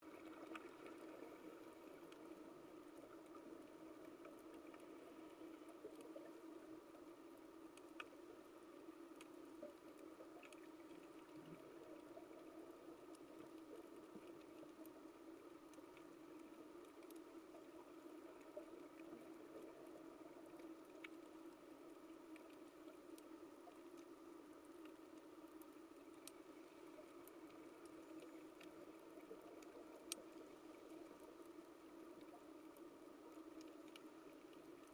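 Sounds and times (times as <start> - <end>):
low underwater hiss: 0.0 - 34.9
sharp clicks and crackles: 0.1 - 34.9.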